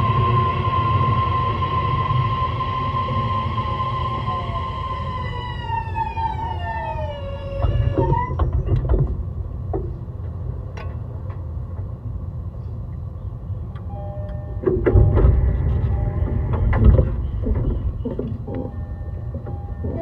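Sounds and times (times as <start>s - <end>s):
electric train whine: 0.0s - 20.0s
train running rumble: 0.0s - 20.0s.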